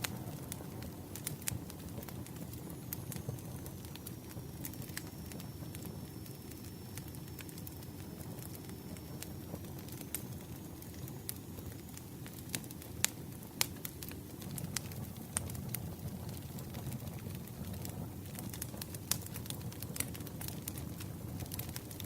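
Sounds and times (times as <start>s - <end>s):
wood crackling and popping: 0.0s - 22.0s.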